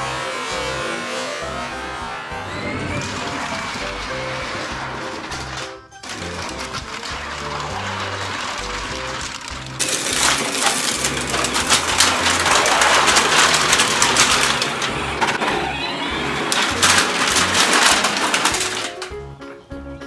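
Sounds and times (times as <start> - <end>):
plastic containers cracking and crunching: 0.0 - 19.3.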